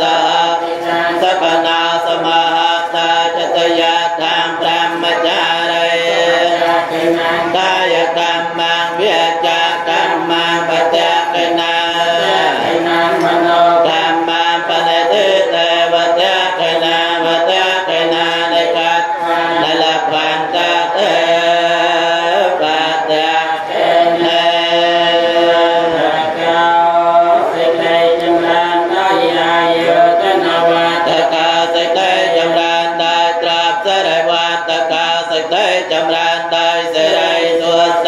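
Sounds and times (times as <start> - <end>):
monks chanting: 0.0 - 38.0.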